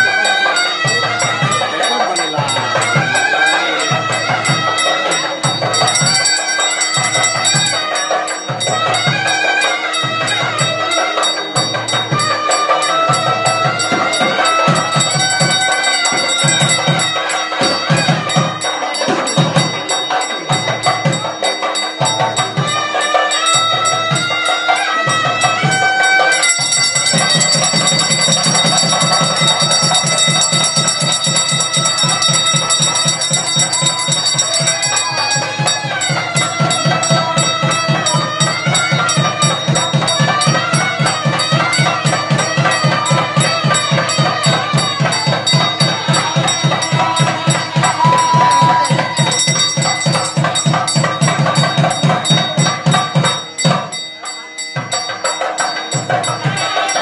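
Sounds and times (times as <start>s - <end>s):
bells ringing: 0.0s - 57.0s
drum beating: 0.0s - 57.0s.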